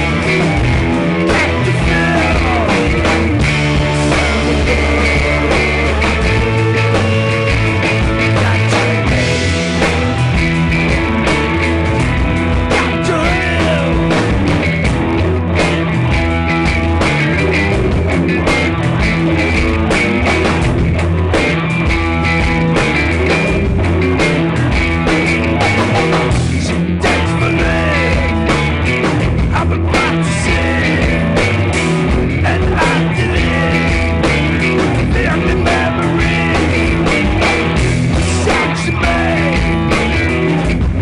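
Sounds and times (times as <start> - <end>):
bent sliding guitar notes: 0.0 - 41.0
rock band playing: 0.0 - 41.0.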